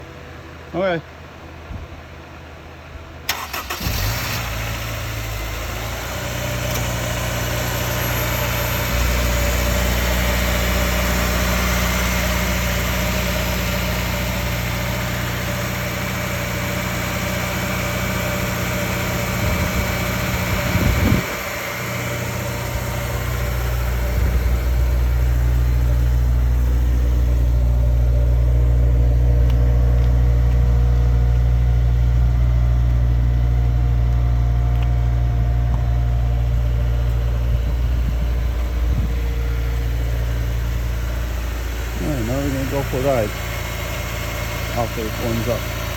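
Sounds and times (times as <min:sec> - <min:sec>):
car engine starting and idling: 0:00.0 - 0:45.9.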